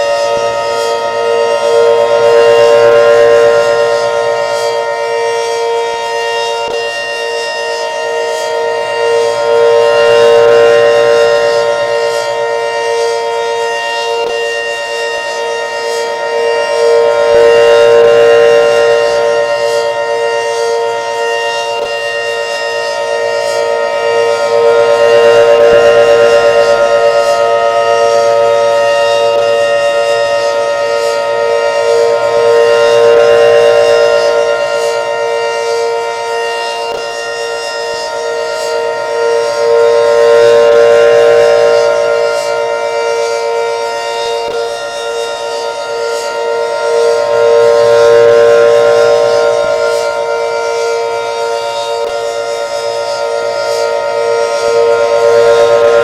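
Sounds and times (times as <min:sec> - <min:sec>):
outdoor warning siren: 0:00.0 - 0:56.0.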